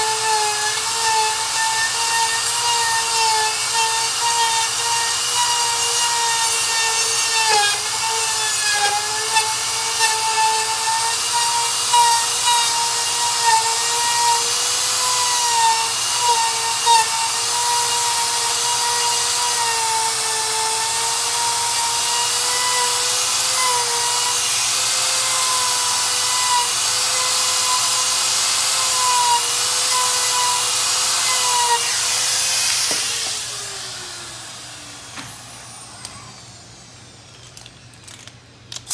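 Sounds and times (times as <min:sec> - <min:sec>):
power tool cutting rubber: 0:00.0 - 0:37.2
power tool motor whine: 0:00.0 - 0:38.9.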